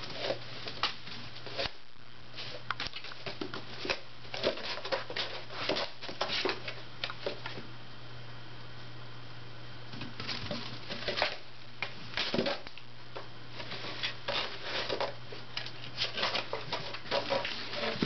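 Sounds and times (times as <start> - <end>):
kittens scratching cardboard: 0.0 - 7.6, 10.2 - 12.8, 13.5 - 18.0.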